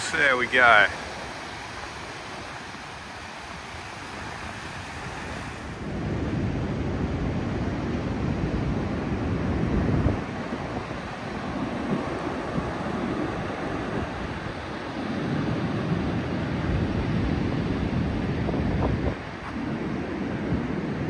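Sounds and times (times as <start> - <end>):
ocean surf washing on beach: 0.0 - 21.0
wind on microphone: 0.0 - 21.0.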